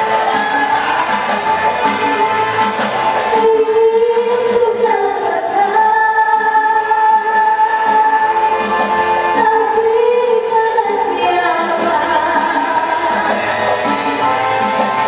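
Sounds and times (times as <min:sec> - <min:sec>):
band accompaniment: 0:00.0 - 0:15.0.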